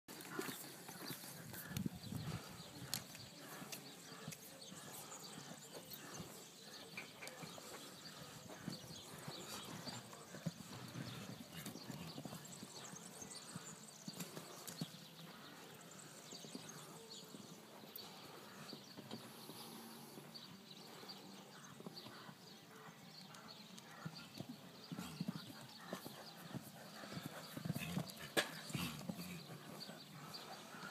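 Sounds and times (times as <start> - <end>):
horse hoofbeats on sand: 0.1 - 19.3, 23.4 - 30.8.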